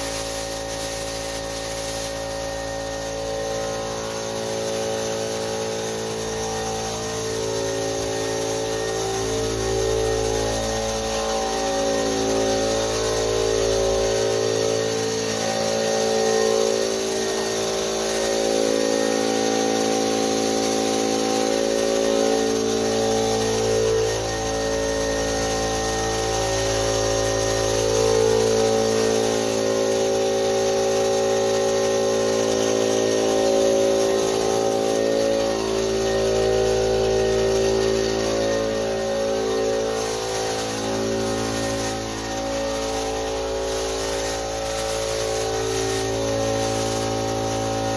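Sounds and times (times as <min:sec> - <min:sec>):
steady hiss: 0:00.0 - 0:47.9.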